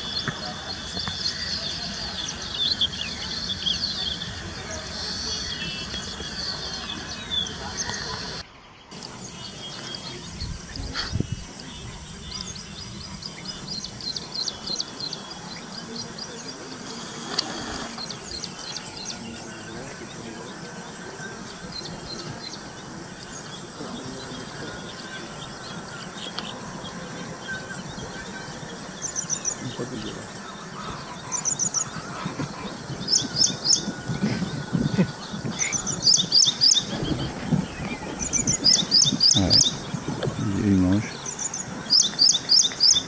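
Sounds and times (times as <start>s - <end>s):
background hiss: 0.0s - 43.0s
small birds chirping: 0.0s - 43.0s.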